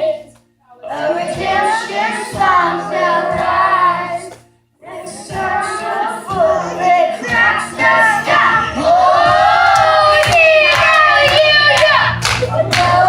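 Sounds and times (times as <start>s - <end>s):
backing music: 0.0s - 13.0s
children's choir singing: 0.0s - 13.0s.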